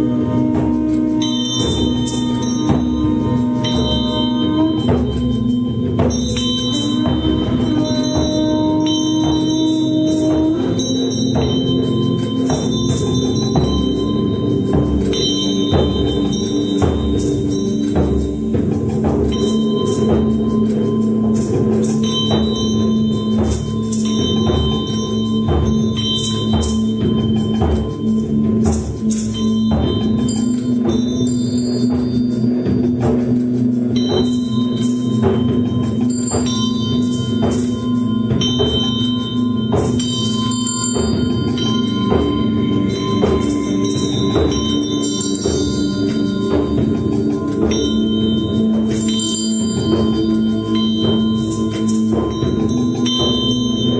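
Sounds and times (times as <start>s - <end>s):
bell-like rattling percussion: 0.0s - 53.9s
sustained ringing tones: 0.0s - 53.9s.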